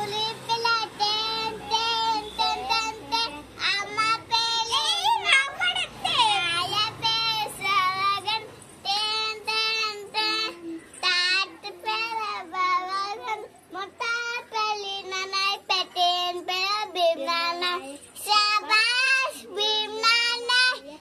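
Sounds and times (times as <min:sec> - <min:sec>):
girl singing high: 0:00.0 - 0:21.0.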